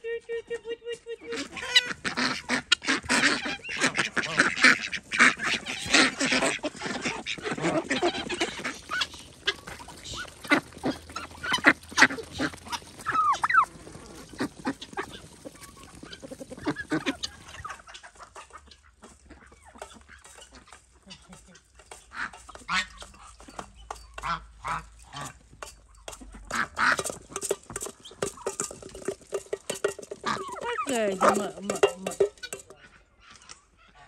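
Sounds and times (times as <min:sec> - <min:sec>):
ducks and geese quacking and honking: 0:00.0 - 0:34.0.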